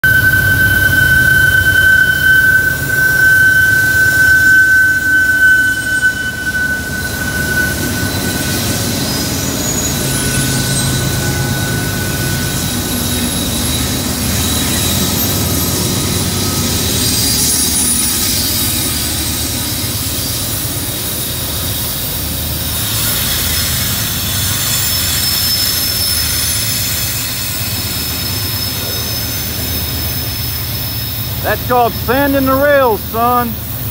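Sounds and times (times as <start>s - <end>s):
deep diesel locomotive drone: 0.0s - 33.9s
high wheel squeals: 0.0s - 33.9s.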